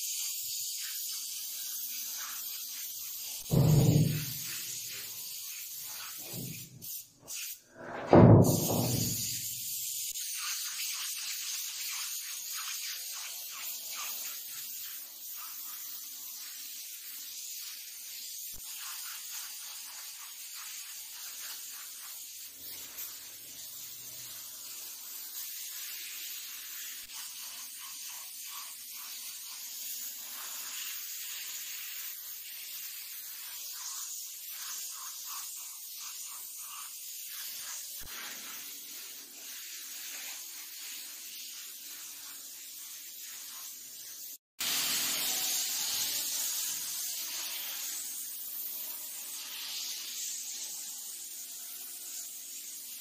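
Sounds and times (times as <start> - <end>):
paint spray gun hissing: 0.0 - 53.0.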